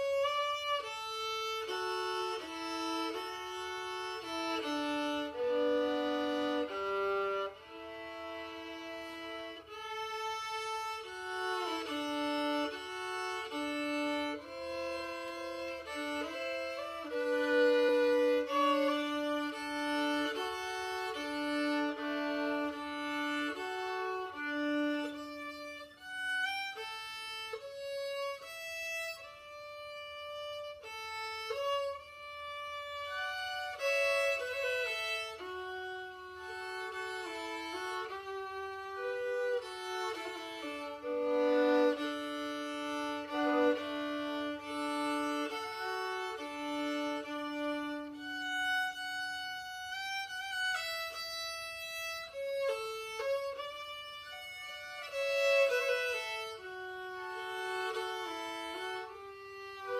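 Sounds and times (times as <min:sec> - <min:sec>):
solo violin slow melody: 0:00.0 - 0:59.9.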